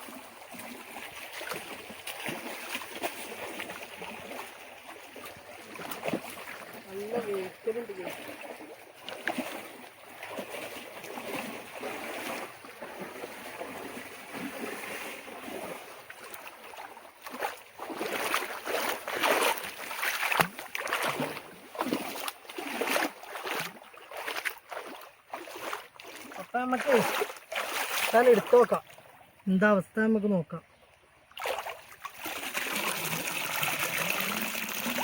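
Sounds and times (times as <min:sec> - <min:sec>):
wading through shallow water: 0:00.0 - 0:35.0.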